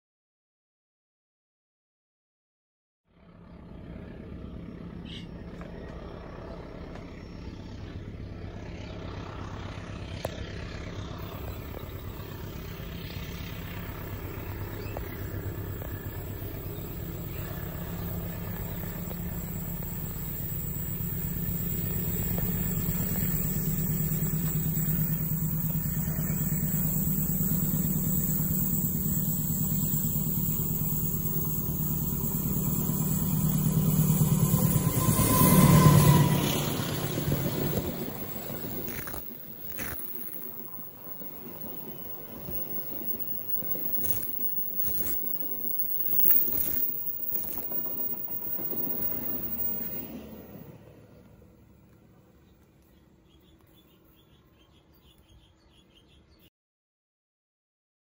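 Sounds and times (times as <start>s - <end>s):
diesel locomotive engine drone: 3.1s - 56.5s.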